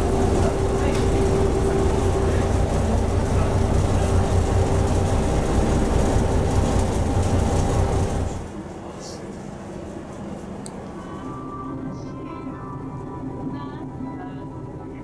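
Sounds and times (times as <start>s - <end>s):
ship engines rumbling: 0.0s - 15.0s.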